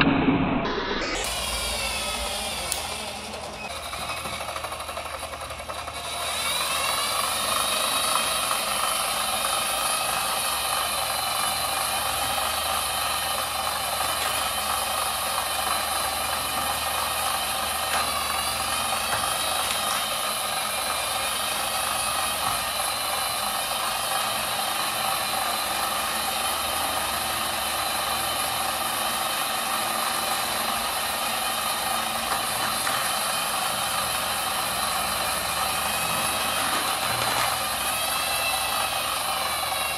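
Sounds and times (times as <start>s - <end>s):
treadmill motor whining: 1.1s - 39.9s.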